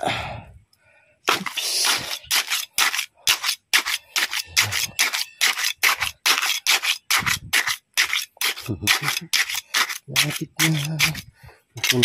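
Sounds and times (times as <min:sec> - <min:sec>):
trowel scraping wet cement: 0:01.3 - 0:12.0.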